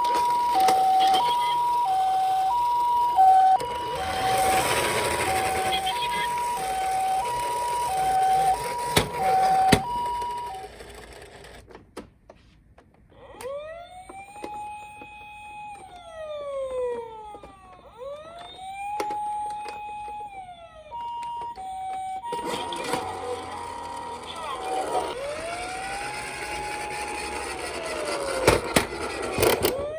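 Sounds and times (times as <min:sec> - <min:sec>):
wailing siren: 0:00.0 - 0:10.8, 0:13.2 - 0:29.9
two-tone toy siren: 0:00.0 - 0:11.3, 0:13.2 - 0:29.9.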